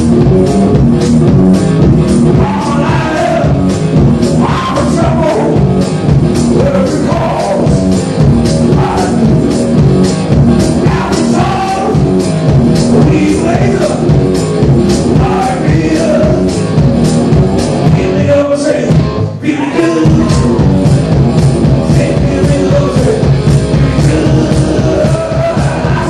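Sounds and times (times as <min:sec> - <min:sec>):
electric guitar: 0:00.0 - 0:26.0
steady drum beat: 0:00.0 - 0:26.0.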